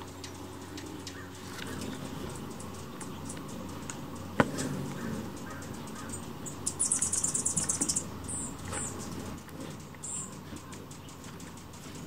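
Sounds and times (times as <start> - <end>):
hummingbird high chips: 0.0 - 12.0
hummingbirds chattering: 0.0 - 12.0.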